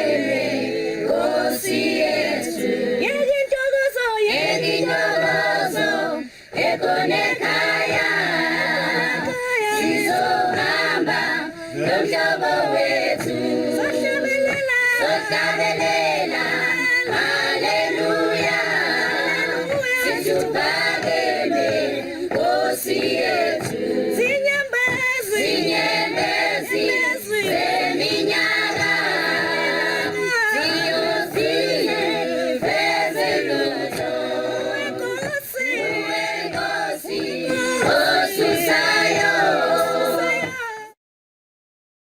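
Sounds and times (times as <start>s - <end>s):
choir singing a cappella: 0.0s - 41.0s.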